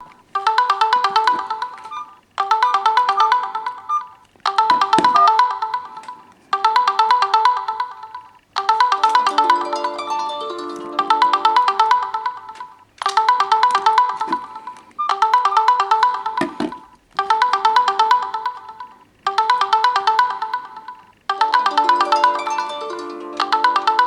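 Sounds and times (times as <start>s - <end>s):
phone ringtone melody: 0.0s - 24.0s.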